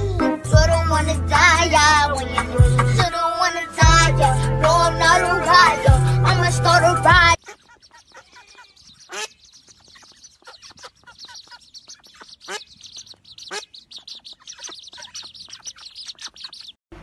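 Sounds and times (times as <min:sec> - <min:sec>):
ducklings peeping: 0:00.0 - 0:17.0.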